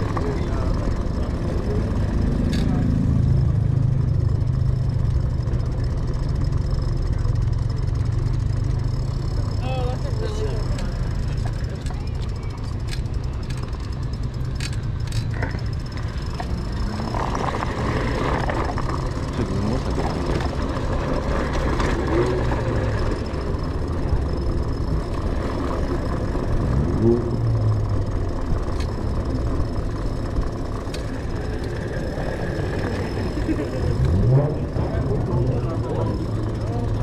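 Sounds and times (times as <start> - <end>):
bicycle tyres on paving stones: 0.0 - 37.0
car engines running: 0.0 - 37.0
engine revving: 0.0 - 37.0.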